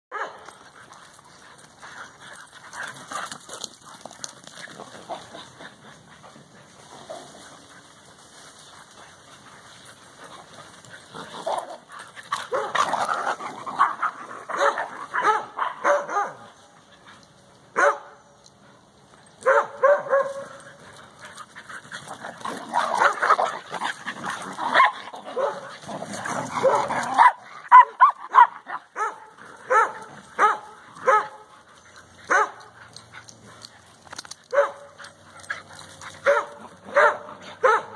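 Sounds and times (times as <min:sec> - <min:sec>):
dogs barking and yipping: 0:00.1 - 0:18.6, 0:19.3 - 0:37.9.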